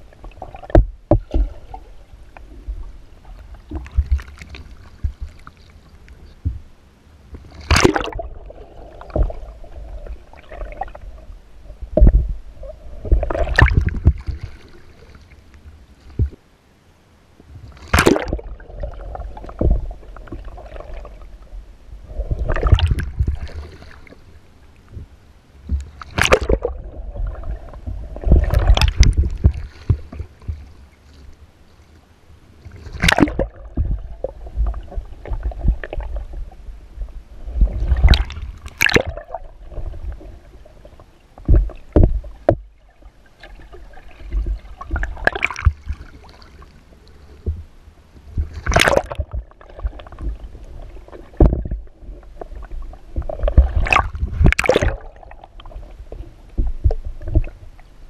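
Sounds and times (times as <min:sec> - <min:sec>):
water splashing around kayak: 0:00.0 - 0:16.5, 0:17.5 - 0:58.0
muffled underwater rumble: 0:00.0 - 0:58.0.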